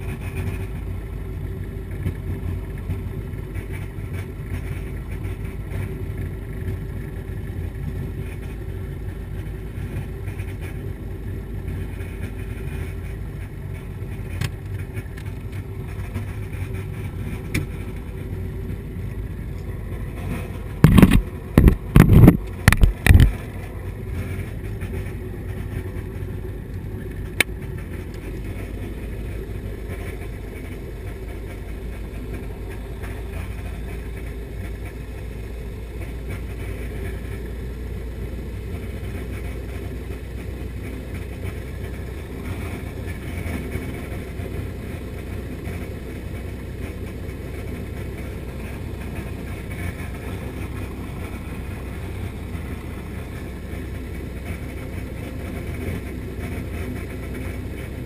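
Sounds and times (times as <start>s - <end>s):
aircraft engine and propeller: 0.0s - 58.0s.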